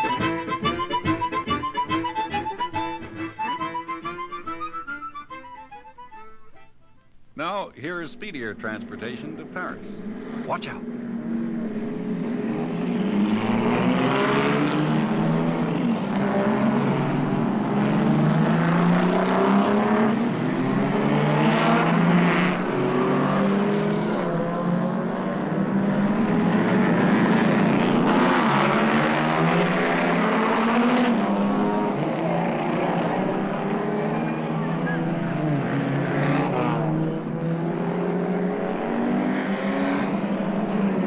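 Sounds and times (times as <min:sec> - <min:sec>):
racing car engines speeding by: 0:08.1 - 0:41.0.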